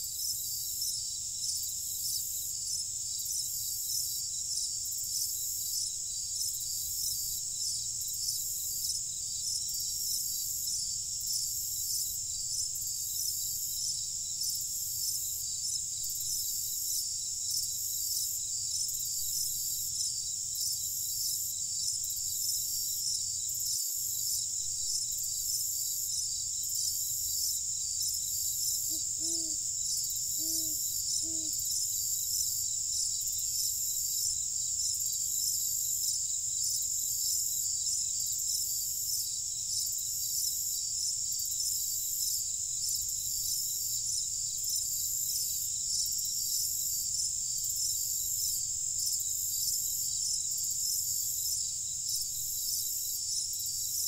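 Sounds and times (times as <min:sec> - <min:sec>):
crickets trilling: 0:00.1 - 0:54.0.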